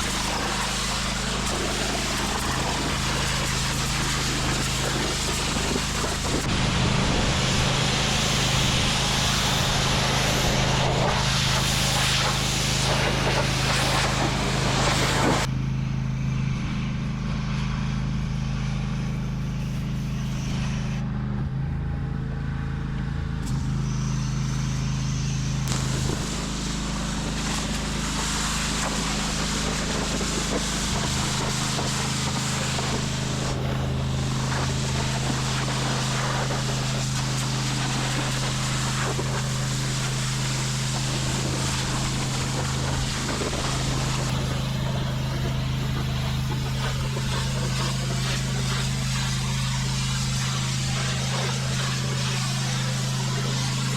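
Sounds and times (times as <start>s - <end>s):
high-pressure spray hissing: 0.0s - 15.5s, 24.1s - 53.9s
pressure washer running: 0.0s - 53.9s.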